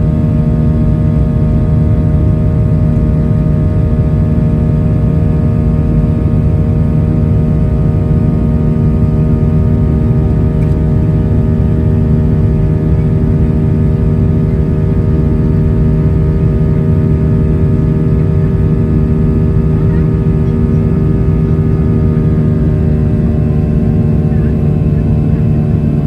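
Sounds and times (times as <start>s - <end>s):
jet engine humming tones: 0.0s - 26.0s
jet engine rumble: 0.0s - 26.0s.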